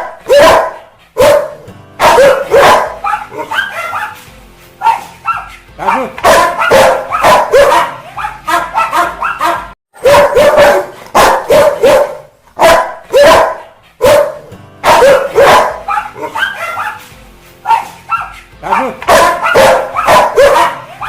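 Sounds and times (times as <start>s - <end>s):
dog barking angrily: 0.0s - 4.2s, 4.8s - 17.0s, 17.6s - 21.0s.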